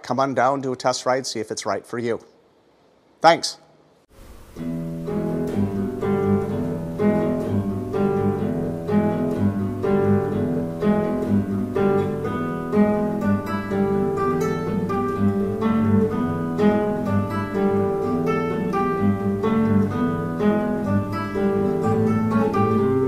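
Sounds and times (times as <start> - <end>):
acoustic guitar music: 4.1 - 23.0.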